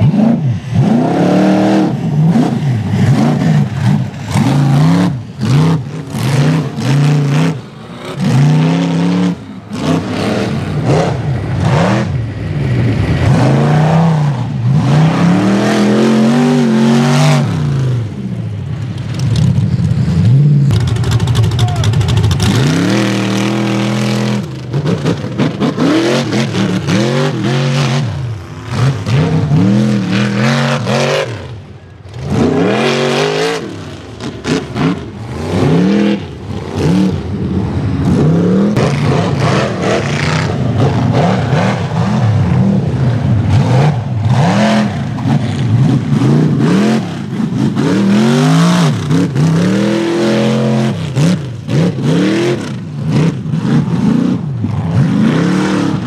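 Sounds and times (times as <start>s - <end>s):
buggy engine revving hard: 0.0s - 18.4s, 19.4s - 56.0s.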